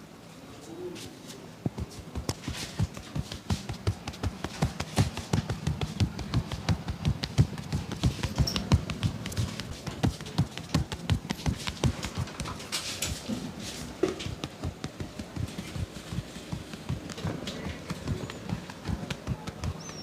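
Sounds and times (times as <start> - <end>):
hands slapping in massage: 1.6 - 13.2, 14.1 - 20.0.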